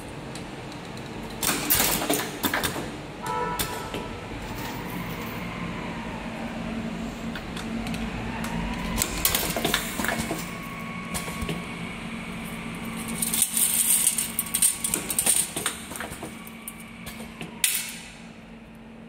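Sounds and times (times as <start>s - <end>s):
machine humming: 3.0s - 19.0s.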